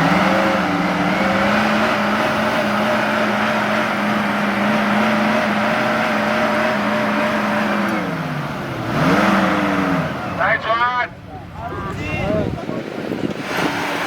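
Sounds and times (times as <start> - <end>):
vehicle engine revving high: 0.0 - 14.0.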